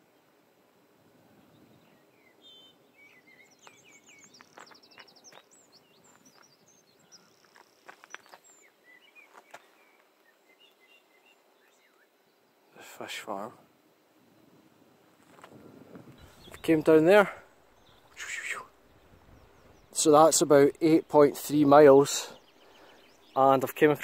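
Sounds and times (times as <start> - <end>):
outdoor background hiss: 0.0 - 24.0
small birds chirping: 1.3 - 13.5, 15.2 - 24.0.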